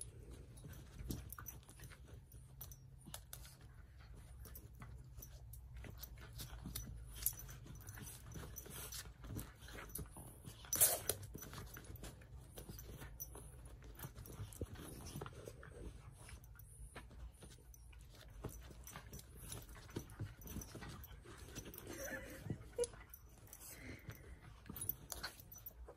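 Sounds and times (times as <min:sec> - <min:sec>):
dogs scuffling on bedding: 0:03.2 - 0:25.9.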